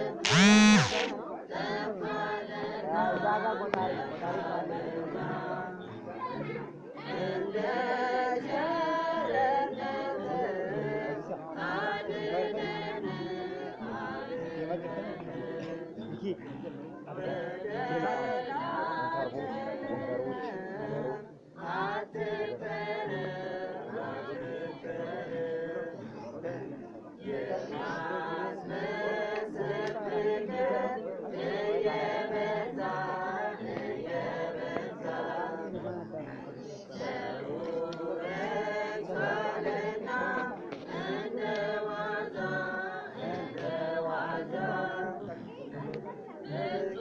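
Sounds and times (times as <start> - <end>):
unaccompanied devotional singing: 0.0 - 47.0.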